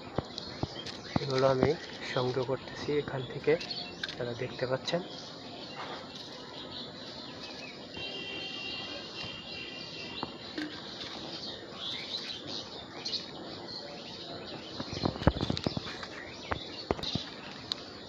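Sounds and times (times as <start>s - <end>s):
birds chirping and calling: 0.0s - 18.0s.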